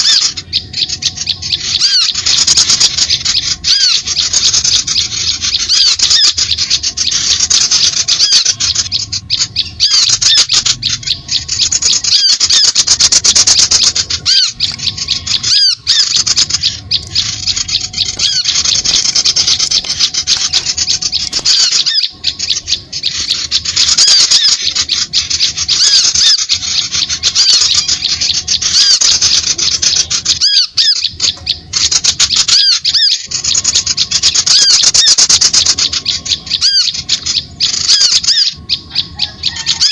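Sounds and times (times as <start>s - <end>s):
rapid high bird chirps: 0.0s - 39.9s.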